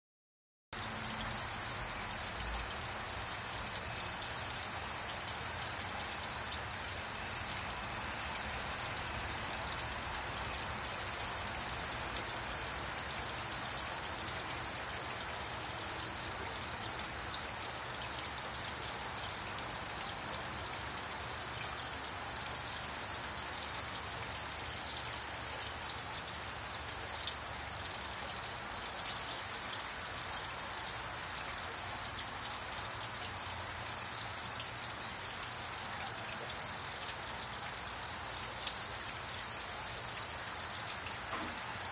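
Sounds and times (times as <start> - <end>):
trickling water: 0.8 - 41.9.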